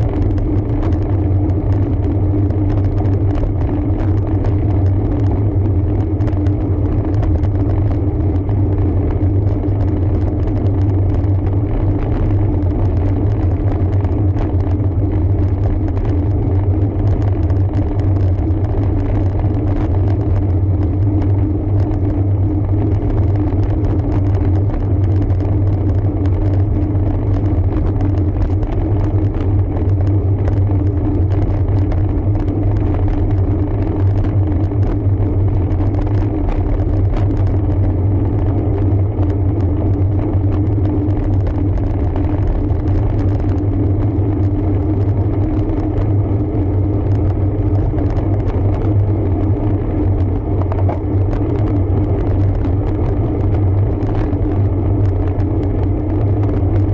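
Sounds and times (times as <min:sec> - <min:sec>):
steady hum: 0:00.0 - 0:56.9
wind and road noise rumble: 0:00.0 - 0:56.9.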